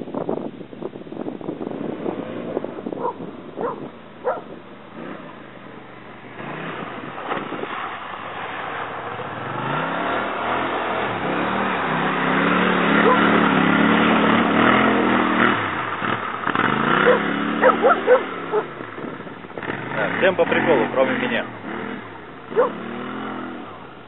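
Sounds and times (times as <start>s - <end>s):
water splashing around wheels: 0.0s - 24.0s
quad bike engine revving: 1.2s - 24.0s.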